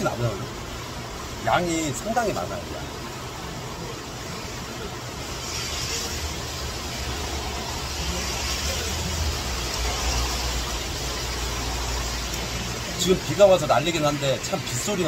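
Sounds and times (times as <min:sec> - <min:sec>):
heavy rain pouring: 0:00.0 - 0:15.0
river rushing: 0:00.0 - 0:15.0.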